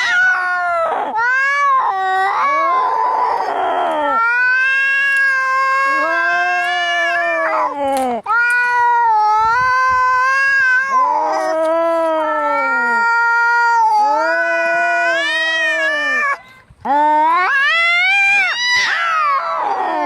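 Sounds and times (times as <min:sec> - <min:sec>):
cats yowling: 0:00.0 - 0:16.4, 0:17.0 - 0:20.0.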